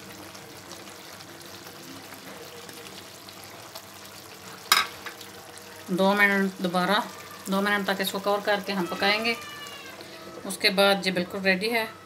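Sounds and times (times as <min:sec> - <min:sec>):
curry sizzling in a frying pan: 0:00.0 - 0:12.0.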